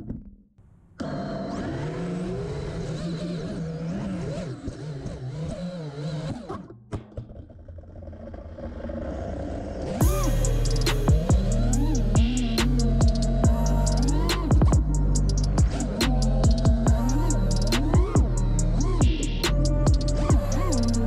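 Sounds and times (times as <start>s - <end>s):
quadcopter motors whining: 1.0s - 6.6s, 9.7s - 21.0s.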